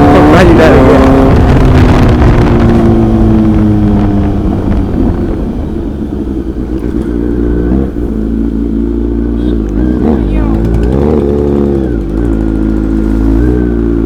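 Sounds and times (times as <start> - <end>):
motorcycle engine: 0.0 - 14.0.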